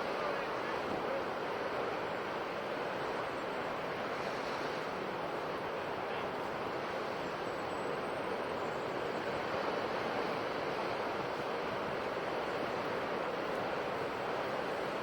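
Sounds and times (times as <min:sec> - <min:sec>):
sea surf washing ashore: 0:00.0 - 0:15.0.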